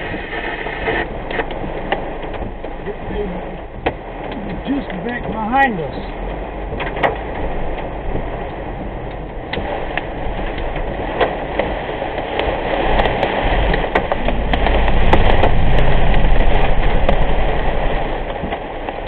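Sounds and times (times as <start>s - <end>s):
heavy rain on car roof: 0.0s - 19.0s
road and engine noise: 0.0s - 19.0s
raindrops ticking on glass: 1.0s - 19.0s.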